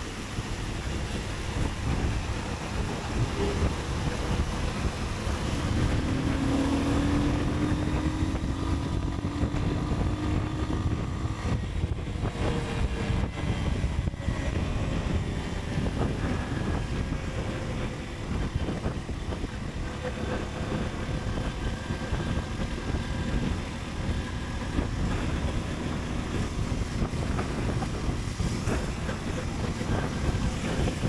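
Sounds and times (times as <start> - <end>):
motorcycle engine running: 0.0 - 31.0
wind on microphone: 0.0 - 31.0.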